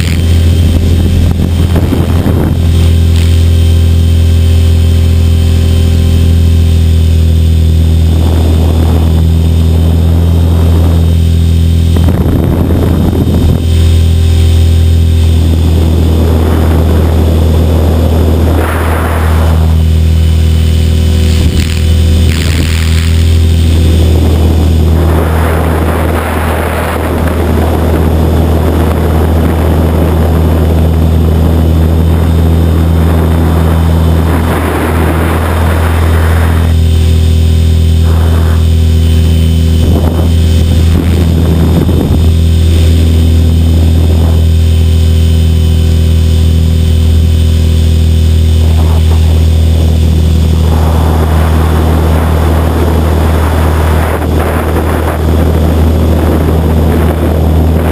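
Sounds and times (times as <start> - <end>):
helicopter rotor and motor buzz: 0.0 - 57.9
wind noise on microphone: 0.0 - 57.9.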